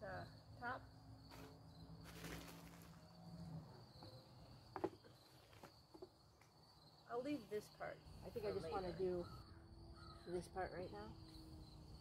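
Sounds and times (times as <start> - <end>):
insect trill: 0.0 - 12.0.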